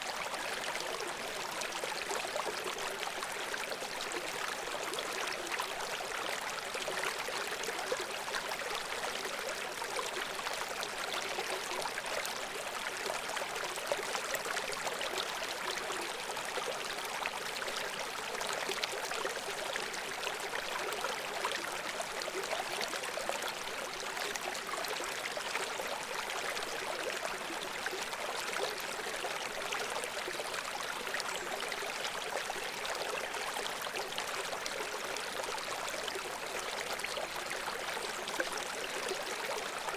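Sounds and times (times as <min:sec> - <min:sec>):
brook water gurgling over stones: 0:00.0 - 0:39.9.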